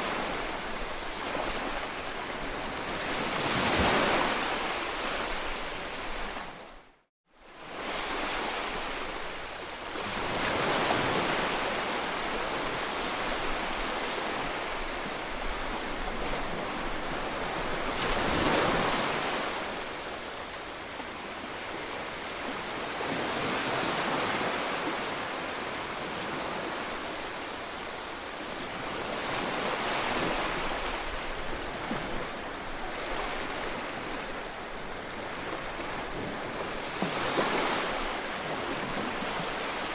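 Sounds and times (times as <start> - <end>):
waves breaking on beach: 0.0 - 6.8, 7.4 - 39.9.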